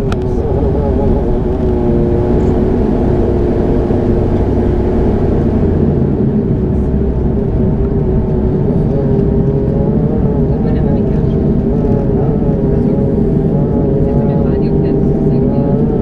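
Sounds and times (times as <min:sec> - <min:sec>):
airplane cabin engine drone: 0:00.0 - 0:16.0.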